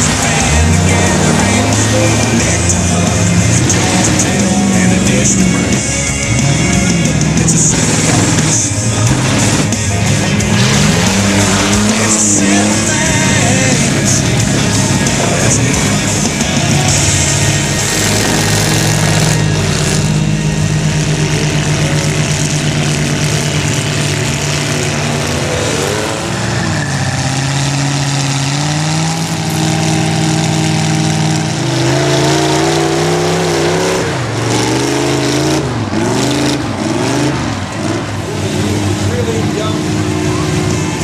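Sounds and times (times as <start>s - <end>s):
truck engines revving: 0.0s - 41.0s.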